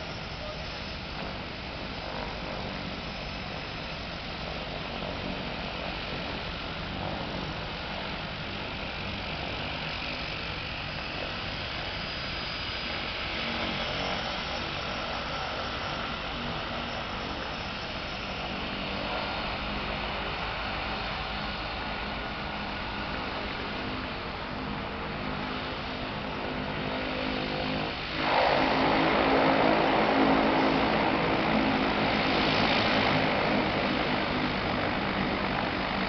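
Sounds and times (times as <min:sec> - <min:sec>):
floatplane engines and propellers: 0:00.0 - 0:36.0.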